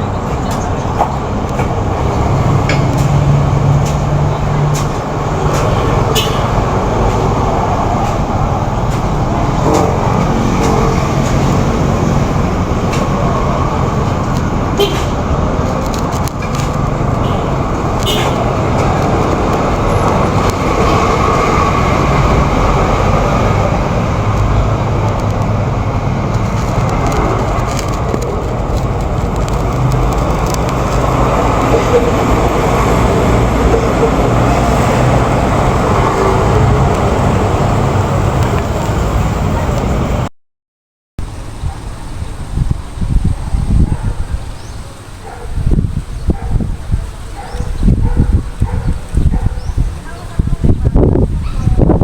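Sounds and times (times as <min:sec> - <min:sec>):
vehicle rumble and road noise: 0:00.0 - 0:40.3, 0:41.2 - 0:52.0.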